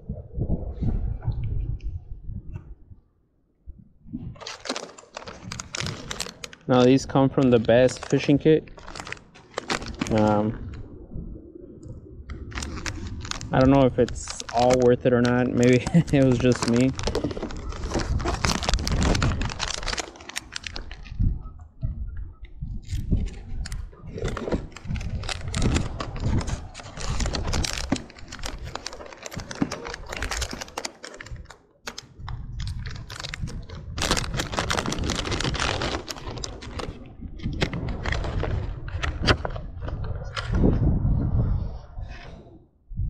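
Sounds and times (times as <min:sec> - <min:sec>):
low rumble: 0:05.2 - 0:29.6, 0:32.2 - 0:43.0.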